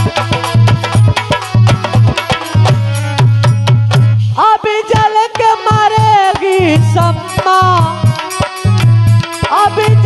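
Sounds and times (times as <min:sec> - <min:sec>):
hand drum rhythm: 0:00.0 - 0:10.0.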